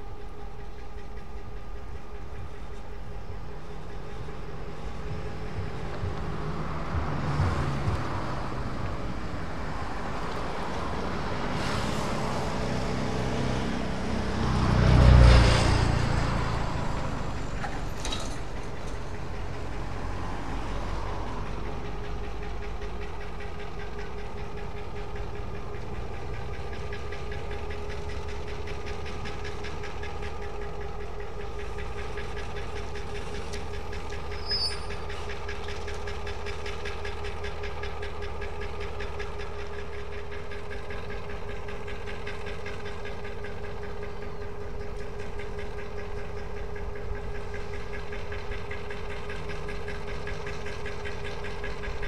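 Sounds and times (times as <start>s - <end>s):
diesel locomotive engine running: 0.0s - 52.0s.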